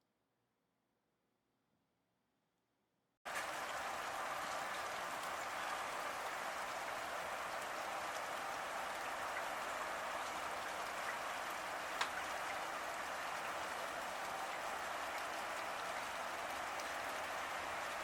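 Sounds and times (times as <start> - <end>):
rain falling: 3.3 - 18.0.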